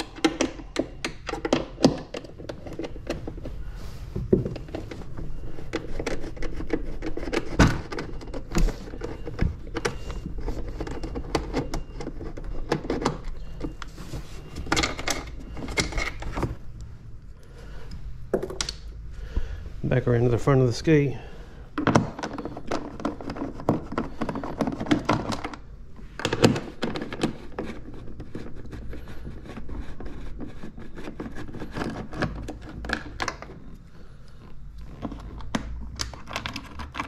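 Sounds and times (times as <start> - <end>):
plastic parts rattling: 0.0 - 3.7, 4.3 - 16.6, 21.7 - 33.8, 34.4 - 37.0.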